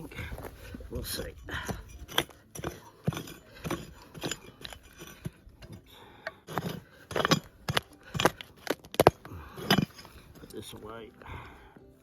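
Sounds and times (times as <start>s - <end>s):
pick scraping stones: 0.0s - 12.0s
pick striking stony ground: 0.0s - 12.0s.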